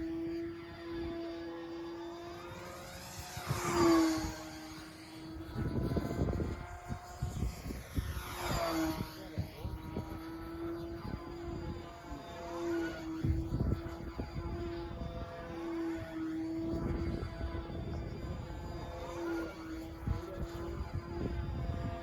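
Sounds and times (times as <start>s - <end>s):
model plane engine passing: 0.0s - 22.0s
wind rumbling on microphone: 2.4s - 22.0s.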